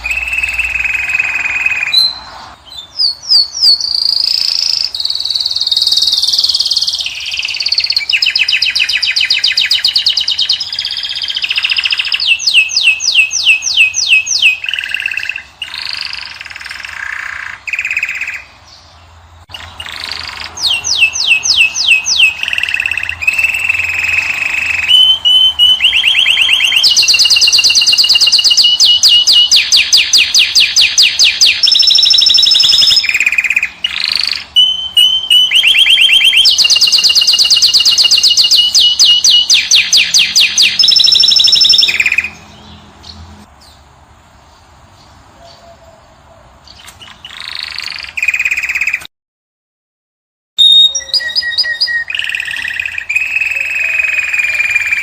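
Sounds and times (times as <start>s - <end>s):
finch singing: 0.0s - 49.1s, 50.6s - 55.0s.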